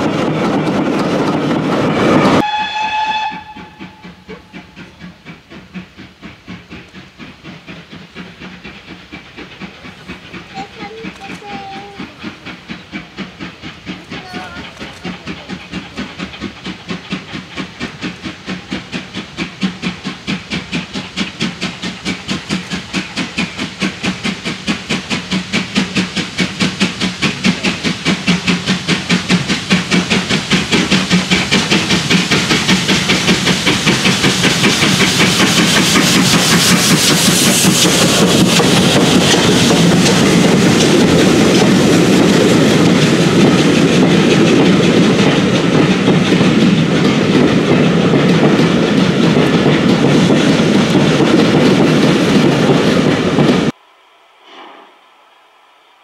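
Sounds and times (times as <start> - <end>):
steam locomotive chuffing: 0.0 - 53.8
train wheels clattering on rails: 0.0 - 53.8.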